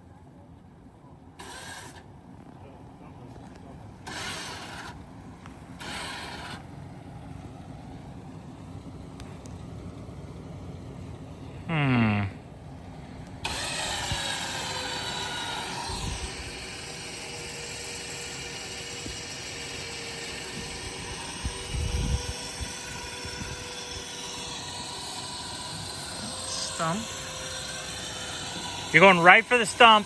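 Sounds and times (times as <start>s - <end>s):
winch whining: 3.9s - 30.0s.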